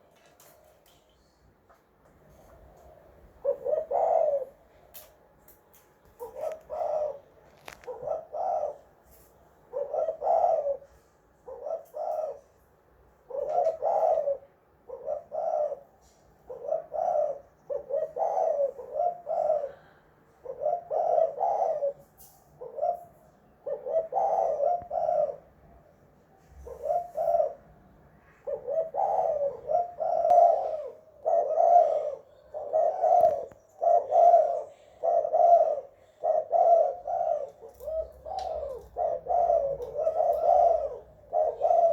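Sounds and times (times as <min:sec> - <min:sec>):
dove cooing: 0:02.3 - 0:04.9, 0:06.1 - 0:41.9.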